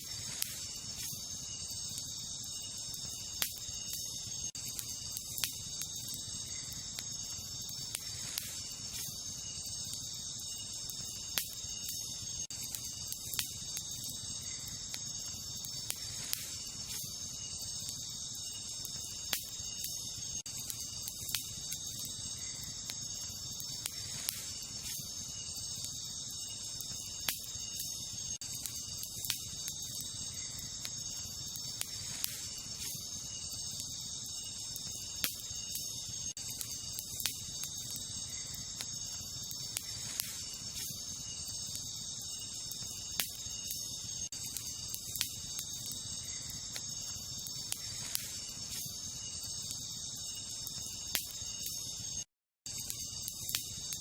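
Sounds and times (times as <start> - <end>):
campfire crackling and popping: 0.0 - 54.0
night insects chorus: 0.0 - 54.0.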